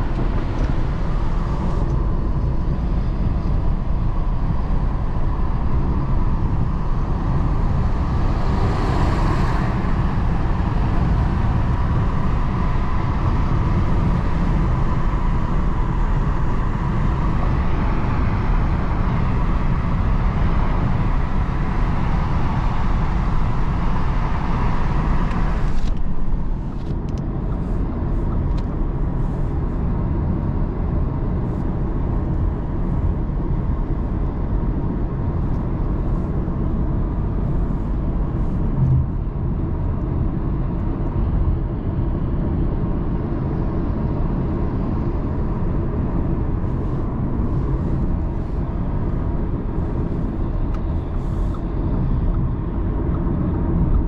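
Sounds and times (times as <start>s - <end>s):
car engine humming: 0.0s - 42.4s, 43.2s - 54.0s
road and tyre noise: 0.0s - 54.0s.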